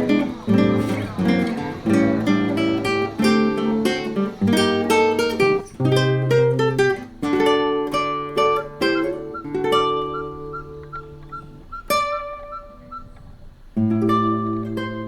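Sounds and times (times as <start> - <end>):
acoustic guitar plucking a melody: 0.0 - 15.0.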